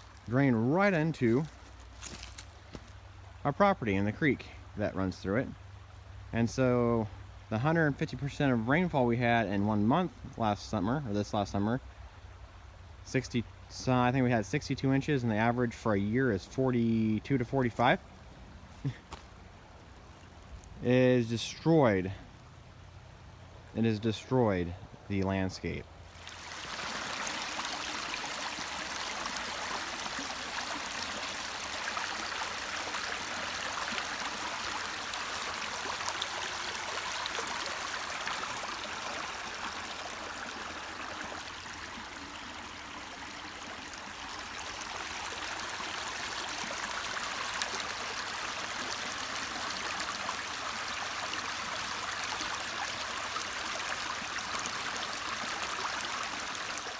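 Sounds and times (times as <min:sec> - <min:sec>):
creek water rushing: 0:00.0 - 0:25.0, 0:26.0 - 0:56.9.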